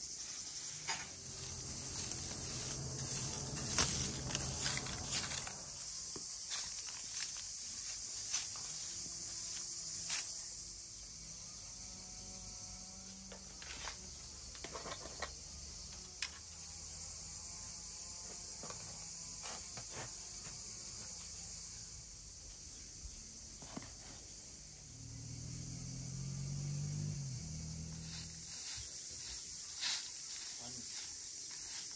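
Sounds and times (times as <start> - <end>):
crickets chirring: 0.0 - 31.9.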